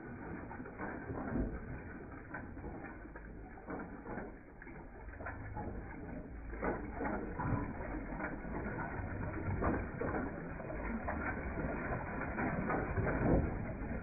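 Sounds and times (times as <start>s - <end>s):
clatter of gears and pump linkage: 0.0s - 14.0s.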